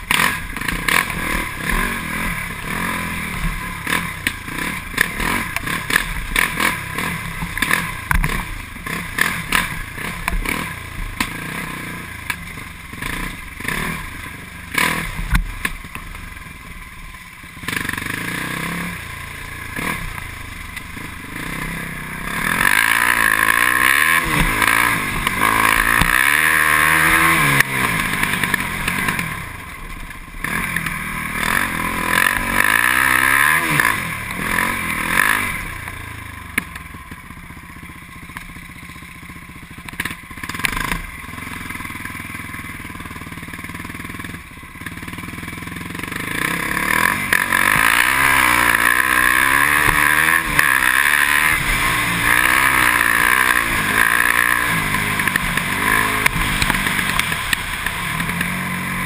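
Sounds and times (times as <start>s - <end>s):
quad bike engine revving: 0.0s - 16.8s, 17.4s - 59.0s.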